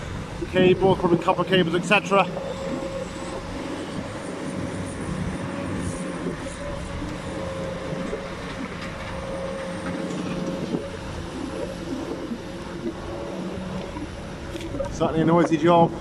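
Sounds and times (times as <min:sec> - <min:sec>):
diesel engine drone: 0:00.0 - 0:16.0
hydraulic whine: 0:00.0 - 0:16.0.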